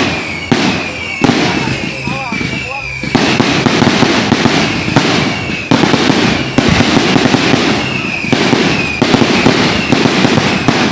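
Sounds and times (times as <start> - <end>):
faint falling whistles: 0.0 - 3.9, 4.6 - 6.9, 7.6 - 10.7
fireworks bangs and crackles: 0.0 - 10.9.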